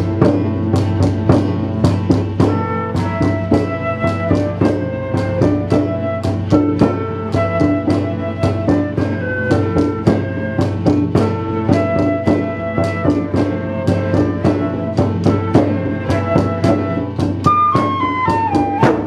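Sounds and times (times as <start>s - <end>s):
hand drum beat: 0.0s - 19.0s
sustained melody instruments: 0.0s - 19.0s.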